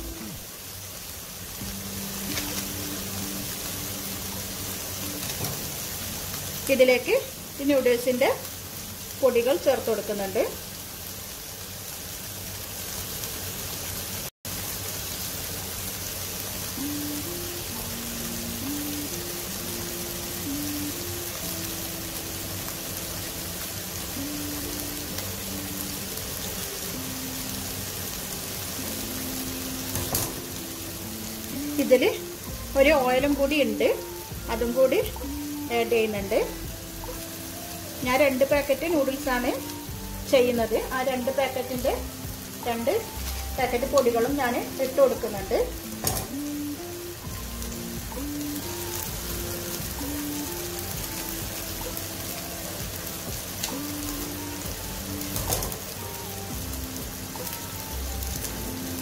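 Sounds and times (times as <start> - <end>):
soft background music: 0.0 - 12.4, 14.6 - 59.0
vegetables sizzling in a frying pan: 0.0 - 59.0.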